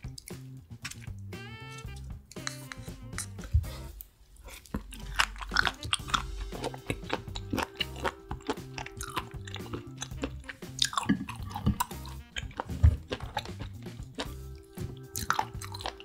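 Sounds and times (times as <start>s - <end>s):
background music: 0.0s - 16.0s
chewing with wet mouth clicks: 0.0s - 16.0s.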